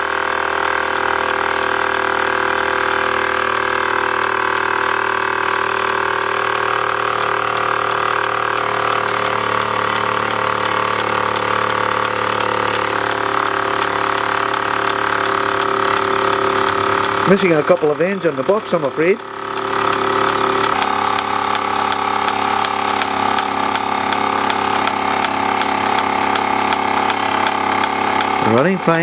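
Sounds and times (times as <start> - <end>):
toy steam engine running: 0.0 - 29.0.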